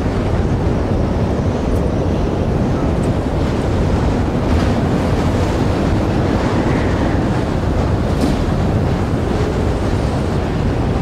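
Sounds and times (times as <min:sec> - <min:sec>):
tornado wind roaring: 0:00.0 - 0:11.0.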